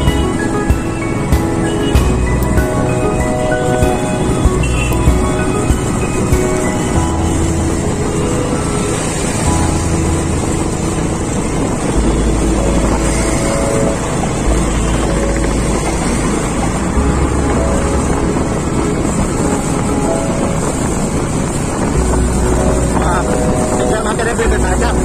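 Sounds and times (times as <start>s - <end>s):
motorbike engine and road noise: 0.0s - 25.0s
wind buffeting microphone: 0.0s - 25.0s.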